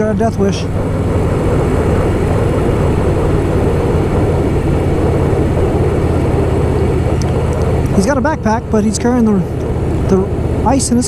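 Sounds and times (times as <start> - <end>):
motorcycle engine running: 0.0 - 11.0
road noise: 0.0 - 11.0
rushing wind: 0.0 - 11.0.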